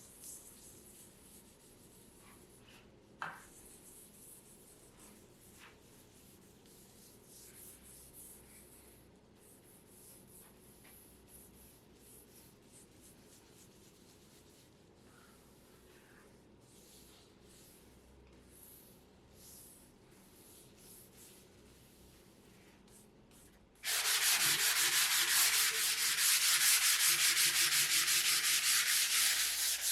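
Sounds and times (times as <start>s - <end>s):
rubbing and scratching on a surface: 0.0s - 29.9s.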